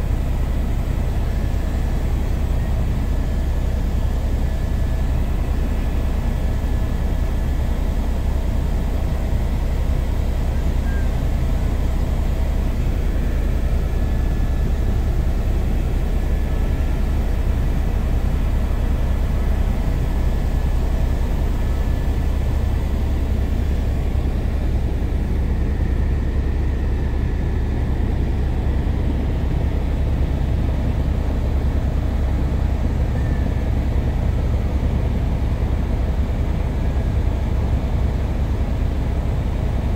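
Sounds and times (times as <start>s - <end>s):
faint steady whines: 0.0s - 39.9s
helicopter rotor and engine drone: 0.0s - 39.9s.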